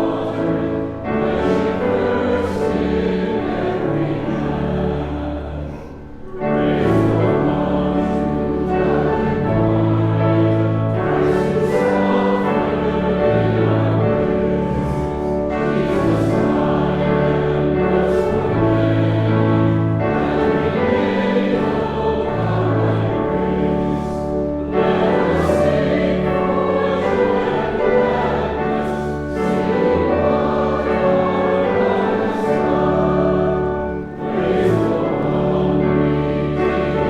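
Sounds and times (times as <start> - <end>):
congregation singing a hymn: 0.0 - 37.0.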